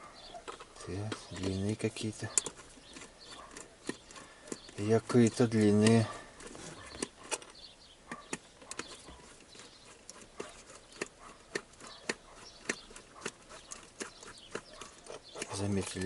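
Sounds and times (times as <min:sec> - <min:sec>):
hand tools clicking and tapping: 0:00.0 - 0:16.0.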